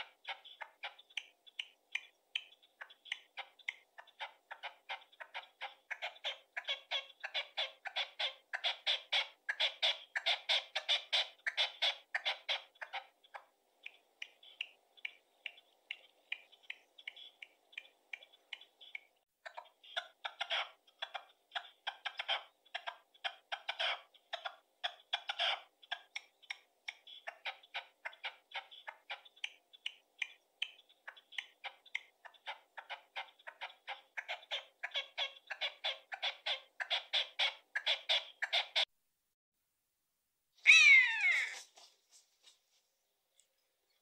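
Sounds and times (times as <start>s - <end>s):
partridge chuckling call: 0.0s - 15.3s, 15.9s - 38.9s, 40.7s - 41.7s.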